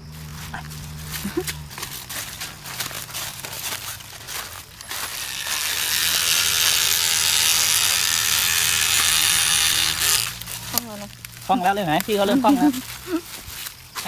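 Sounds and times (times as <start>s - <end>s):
electric knife running: 0.0s - 13.2s
footsteps in dry leaves: 0.0s - 14.0s.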